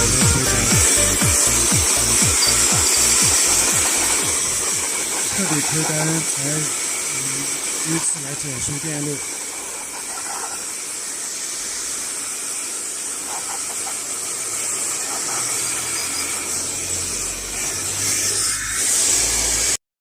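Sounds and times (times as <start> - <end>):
hair dryer blowing: 0.0 - 19.8.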